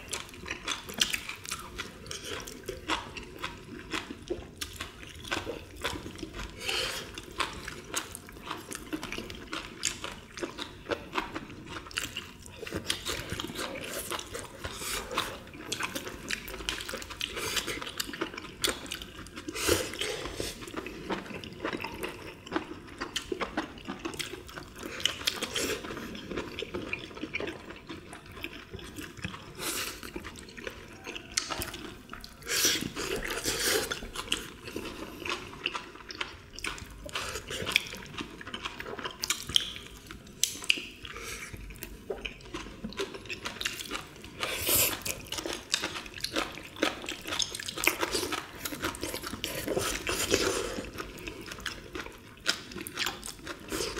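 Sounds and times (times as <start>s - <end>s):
chewing and slurping: 0.0s - 53.9s.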